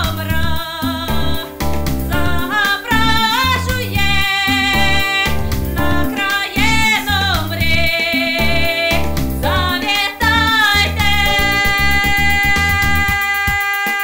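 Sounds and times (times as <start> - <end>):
instrumental accompaniment with bass: 0.0 - 13.6
woman singing: 0.0 - 14.0.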